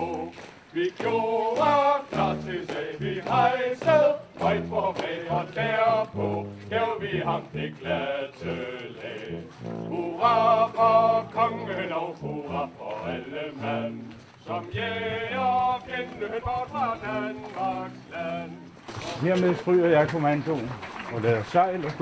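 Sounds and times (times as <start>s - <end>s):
choir singing: 0.0s - 18.7s.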